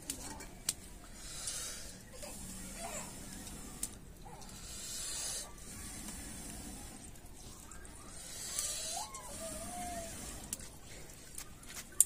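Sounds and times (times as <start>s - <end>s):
wood fire hissing: 0.0s - 12.0s.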